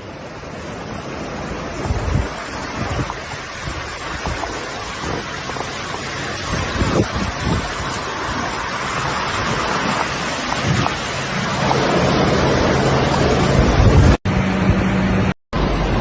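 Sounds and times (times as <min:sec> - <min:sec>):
floodwater rushing: 0:00.0 - 0:14.2, 0:15.6 - 0:16.0
wind buffeting microphone: 0:00.0 - 0:16.0.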